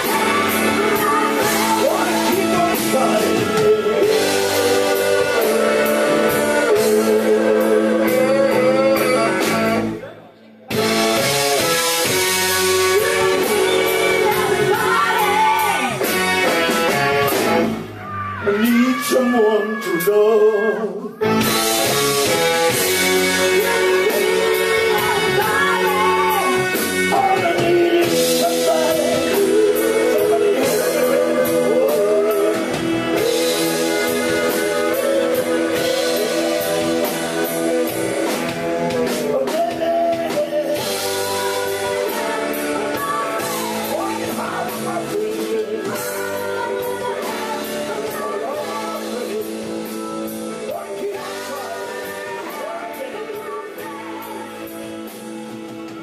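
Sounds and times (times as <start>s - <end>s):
drum kit steady beat: 0.0s - 10.0s, 10.7s - 18.8s, 21.2s - 56.0s
person singing: 0.0s - 10.1s, 10.8s - 16.2s, 16.9s - 55.2s
guitar: 0.0s - 56.0s.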